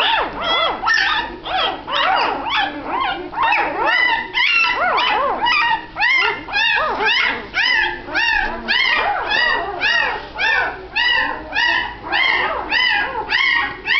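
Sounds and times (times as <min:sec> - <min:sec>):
puppies squealing and whimpering: 0:00.0 - 0:13.9.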